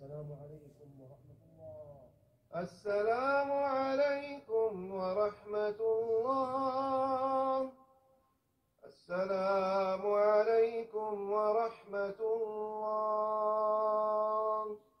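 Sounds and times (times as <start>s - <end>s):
man chanting: 0.0s - 7.8s, 8.8s - 14.8s.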